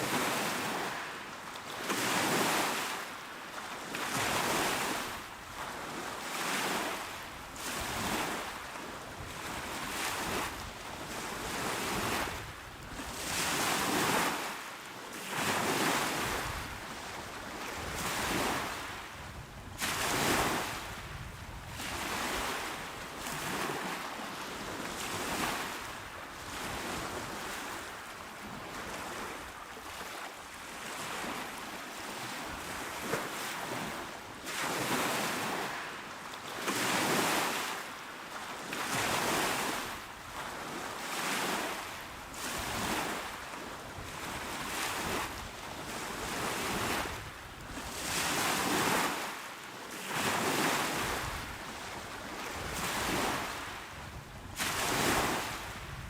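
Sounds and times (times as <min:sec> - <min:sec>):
small waves washing onto shore: 0:00.0 - 0:56.0.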